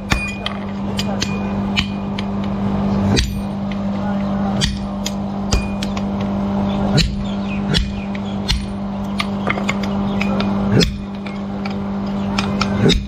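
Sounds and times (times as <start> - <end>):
sharp metal knocks: 0.0 - 3.9, 4.6 - 13.0
machine hum: 0.0 - 13.0.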